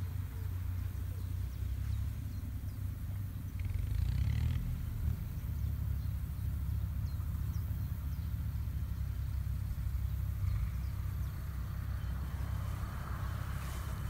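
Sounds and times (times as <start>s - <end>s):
tractor diesel engine rumbling: 0.0s - 14.0s.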